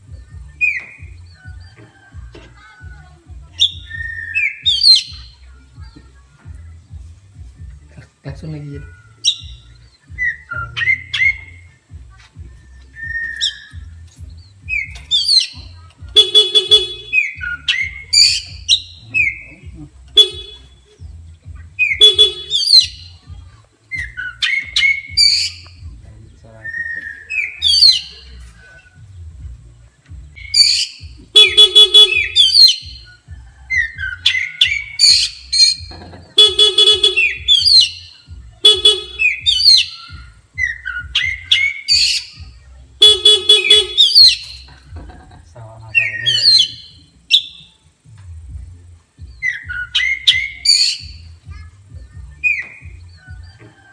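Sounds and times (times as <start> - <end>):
harsh buzzy bird notes: 0.0 - 53.9
magpie-robin singing: 0.0 - 53.9.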